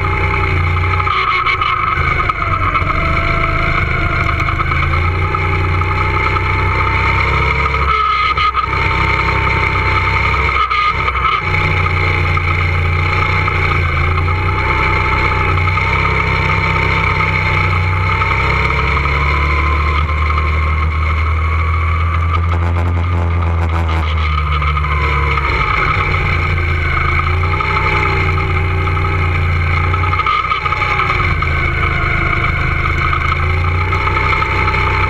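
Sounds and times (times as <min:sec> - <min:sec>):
go-kart engine rumble and whine: 0:00.0 - 0:35.0.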